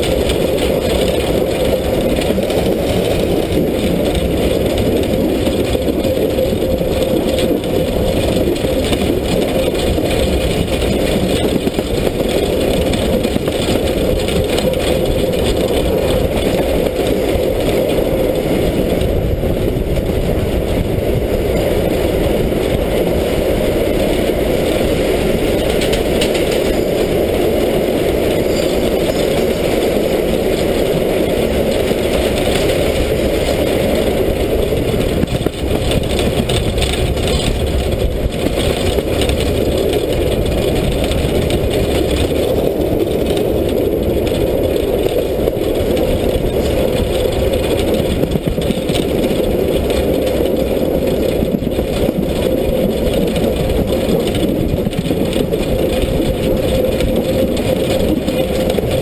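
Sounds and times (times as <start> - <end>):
steam locomotive running: 0.0 - 59.0.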